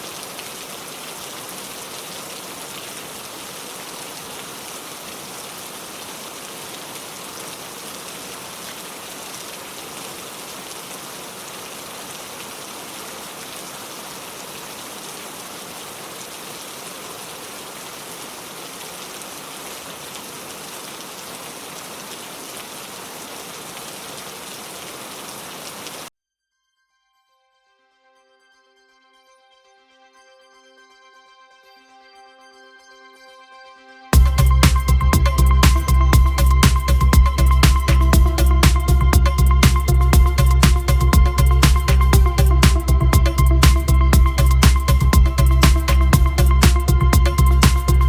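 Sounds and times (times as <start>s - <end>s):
steady rain falling: 0.0s - 26.1s, 34.2s - 48.0s.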